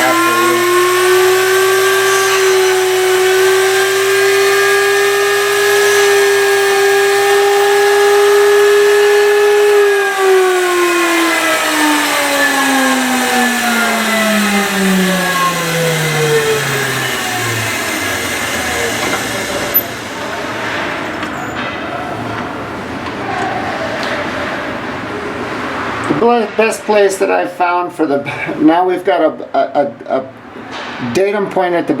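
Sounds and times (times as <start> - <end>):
grinding wheel motor whine: 0.0 - 26.3.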